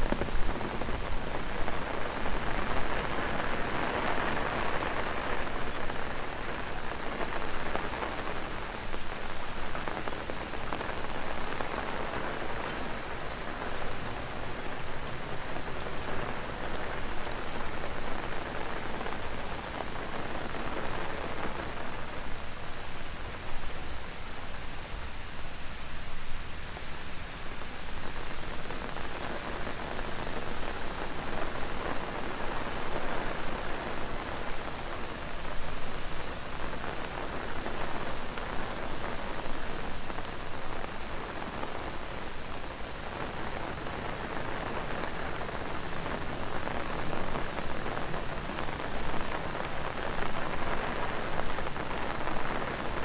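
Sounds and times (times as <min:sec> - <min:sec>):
cicadas droning: 0:00.0 - 0:53.0
heavy rain on an umbrella: 0:00.0 - 0:53.0.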